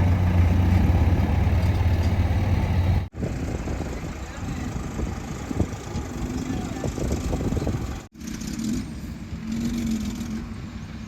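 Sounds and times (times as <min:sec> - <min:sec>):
diesel earthmoving machinery running: 0:00.0 - 0:11.0.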